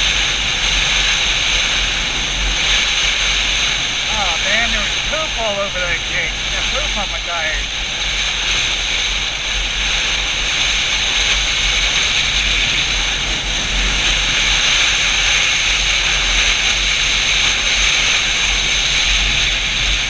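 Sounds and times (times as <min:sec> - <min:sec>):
low motorcycle rumble: 0:00.0 - 0:20.0.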